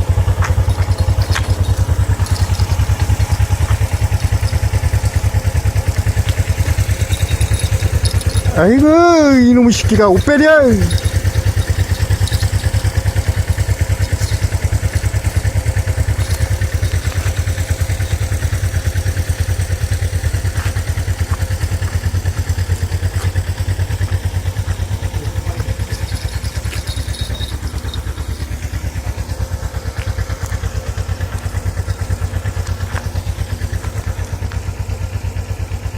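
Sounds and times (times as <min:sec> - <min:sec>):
motorcycle engine running at low revs: 0:00.0 - 0:35.9.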